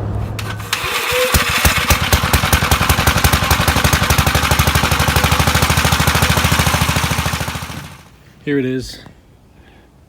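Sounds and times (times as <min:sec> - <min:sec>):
engine running: 0:00.0 - 0:08.2.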